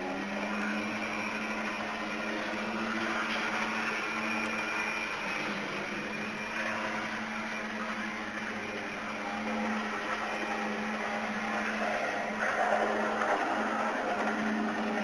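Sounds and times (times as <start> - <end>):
model locomotive motor humming: 0.0 - 15.0.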